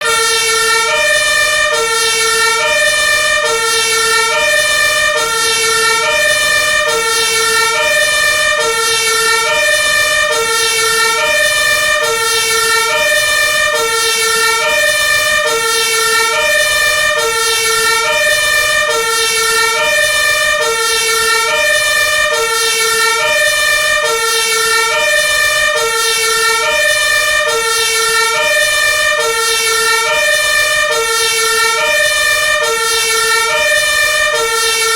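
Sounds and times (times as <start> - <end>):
two-tone fire truck siren: 0.0 - 34.9.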